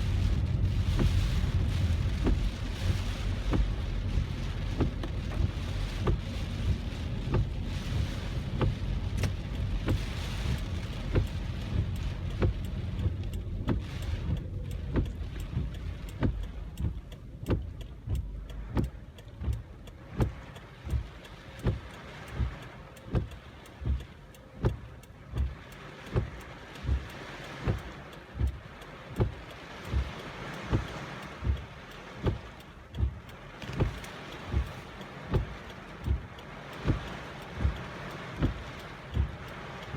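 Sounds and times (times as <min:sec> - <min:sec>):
heavy rain on car: 0:00.0 - 0:39.9
low road rumble: 0:00.0 - 0:39.9
windshield wipers thumping: 0:00.0 - 0:39.9.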